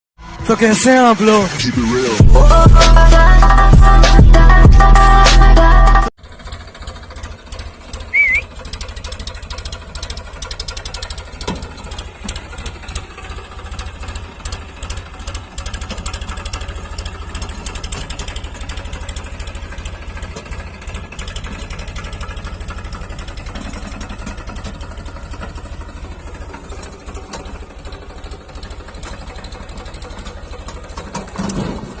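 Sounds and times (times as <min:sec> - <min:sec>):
diesel engine running: 0:00.2 - 0:32.0.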